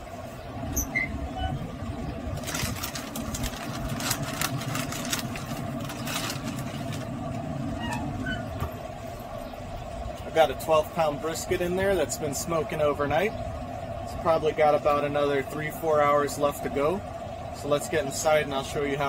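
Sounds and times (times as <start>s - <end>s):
low rumble: 0.0s - 18.6s
smoker fan hum: 0.0s - 19.0s.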